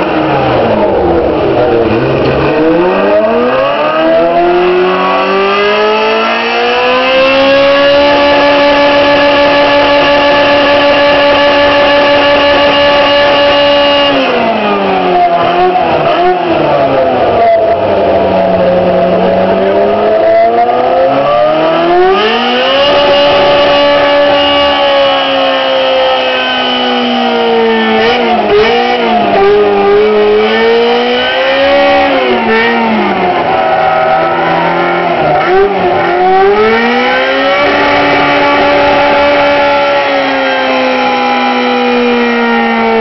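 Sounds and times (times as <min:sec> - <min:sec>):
car engine revving loudly: 0:00.0 - 0:43.0.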